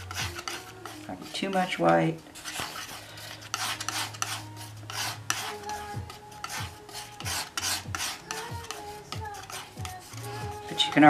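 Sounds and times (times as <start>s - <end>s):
palette knife scraping paint: 0.0s - 11.0s.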